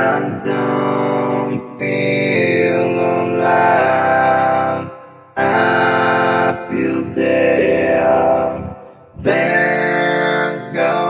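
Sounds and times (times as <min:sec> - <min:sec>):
person singing over sustained chords: 0:00.0 - 0:11.0.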